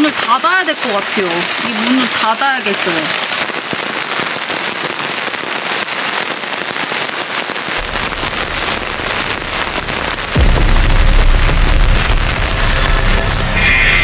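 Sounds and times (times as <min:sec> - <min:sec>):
heavy rain on tarp and umbrella: 0:00.0 - 0:14.0.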